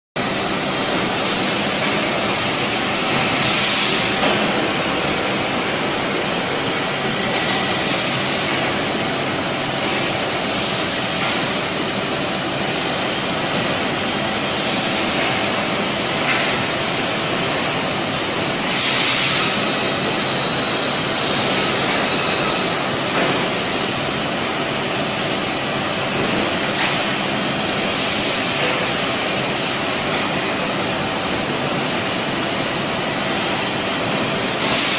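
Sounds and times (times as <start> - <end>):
industrial machinery drone: 0.2 - 34.9.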